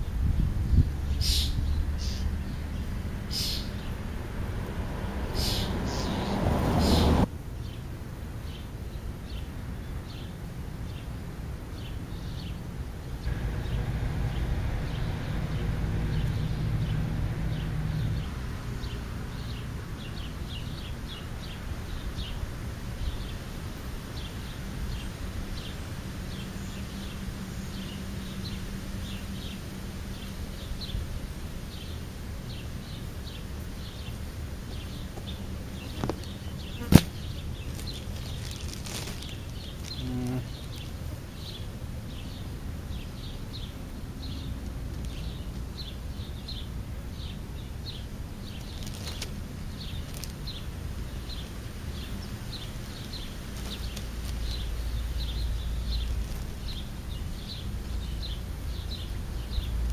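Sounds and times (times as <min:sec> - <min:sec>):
low outdoor rumble: 0:00.0 - 0:59.9
small birds chirping: 0:00.0 - 0:59.9.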